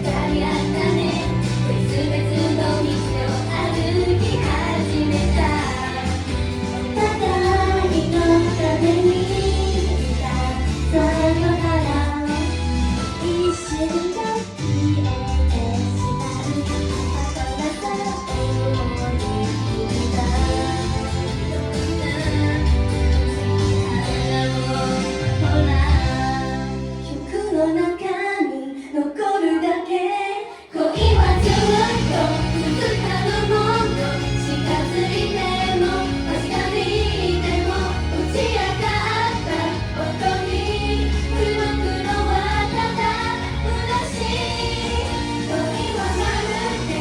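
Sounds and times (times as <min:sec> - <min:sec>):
pop song with female vocals: 0:00.0 - 0:47.0.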